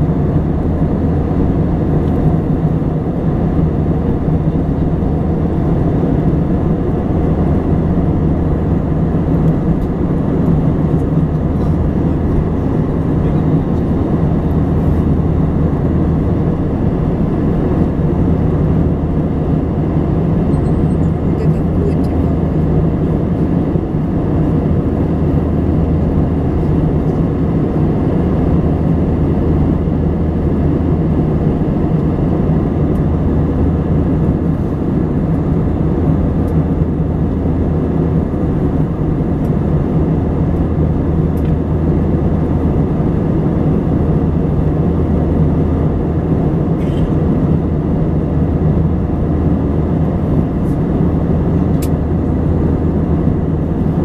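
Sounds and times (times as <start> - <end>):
low engine drone: 0.0 - 54.0.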